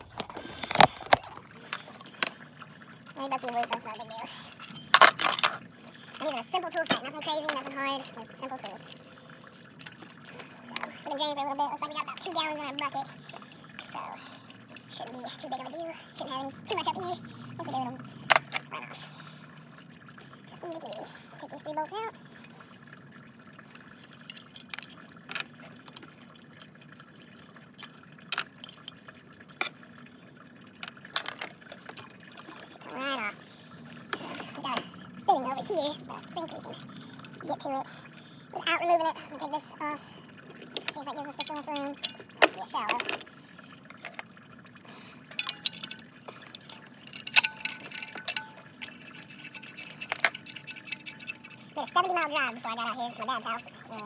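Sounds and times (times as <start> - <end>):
drips ticking: 0.0 - 54.0
liquid trickling into bucket: 0.0 - 54.0.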